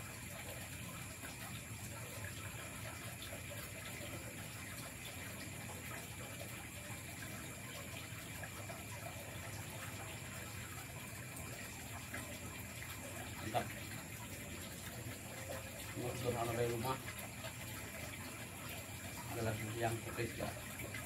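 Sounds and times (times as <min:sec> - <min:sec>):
night forest background hiss: 0:00.0 - 0:21.0.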